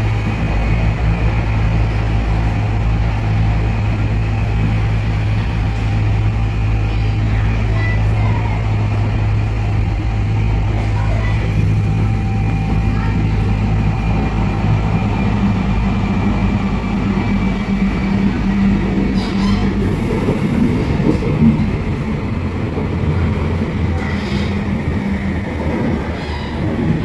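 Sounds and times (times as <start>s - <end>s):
wheels rumbling on rails: 0.0s - 27.0s.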